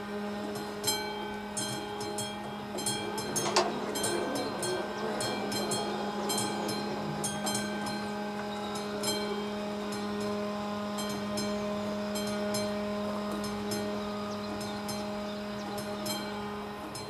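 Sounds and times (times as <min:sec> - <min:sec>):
level crossing warning bell: 0:00.0 - 0:17.0
steady low hum: 0:00.0 - 0:17.0.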